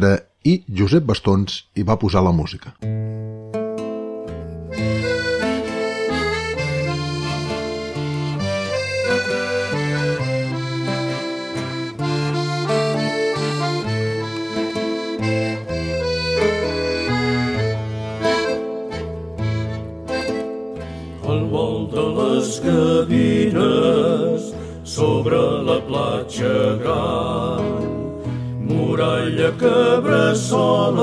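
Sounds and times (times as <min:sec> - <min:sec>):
accordion melody: 0:03.0 - 0:31.0.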